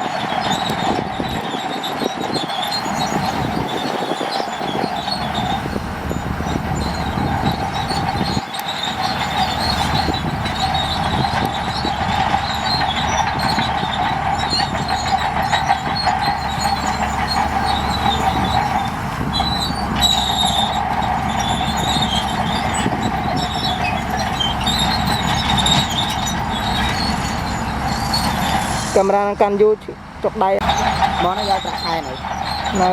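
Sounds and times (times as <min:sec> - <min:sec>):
heavy machinery engine running: 0:00.0 - 0:32.9
high metallic squealing and clattering: 0:00.0 - 0:32.9.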